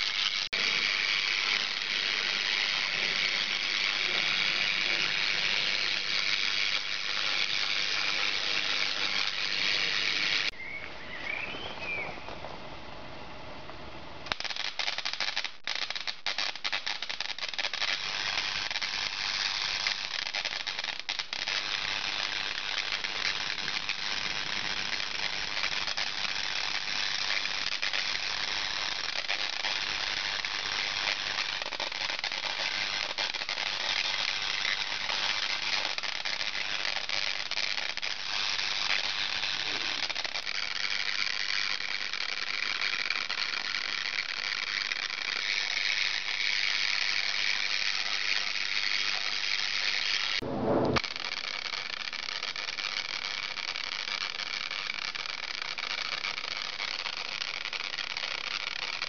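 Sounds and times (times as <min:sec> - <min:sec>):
tesla coil crackling buzz: 0:00.0 - 0:10.6, 0:14.1 - 0:59.0.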